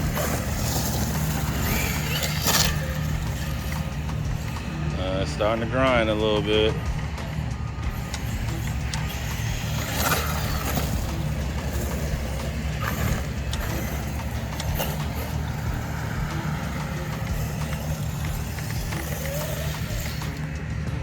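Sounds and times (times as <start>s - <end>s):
rc truck rumbling: 0.0s - 21.0s.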